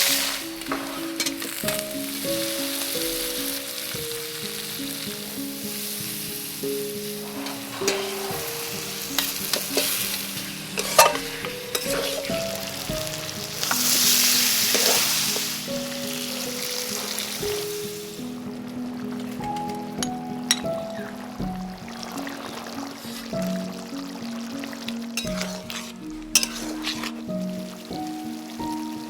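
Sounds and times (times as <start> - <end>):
background music: 0.0 - 29.0
chicken sizzling in a pan: 0.0 - 29.0.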